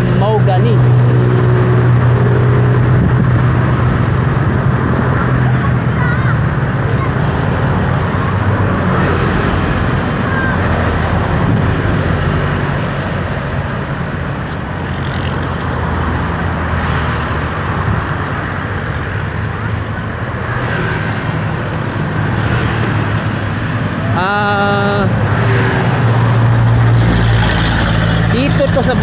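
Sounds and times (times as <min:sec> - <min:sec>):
road noise: 0:00.0 - 0:29.0
vehicle engine hum: 0:00.0 - 0:29.0.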